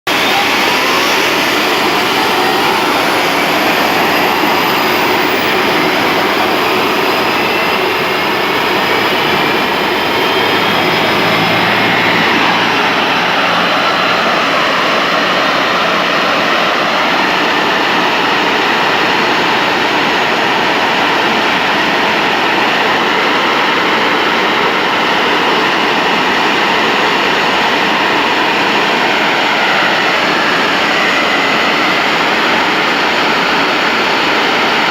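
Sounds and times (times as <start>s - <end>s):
jet engine spinning up: 0.1s - 34.9s.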